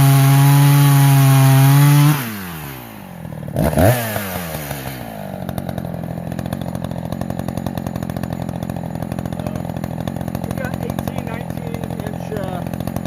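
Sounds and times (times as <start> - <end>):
chainsaw revving down and idling: 0.0 - 13.0.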